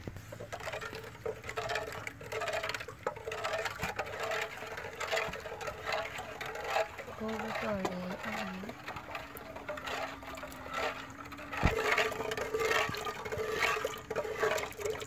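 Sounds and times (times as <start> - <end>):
spoon stirring liquid in pot: 0.0 - 15.0.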